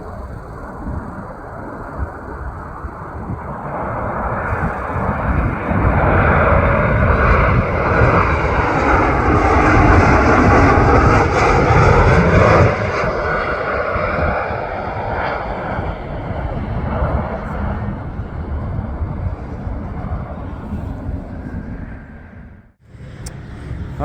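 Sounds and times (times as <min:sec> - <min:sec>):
jet plane passing overhead: 0:00.0 - 0:24.0.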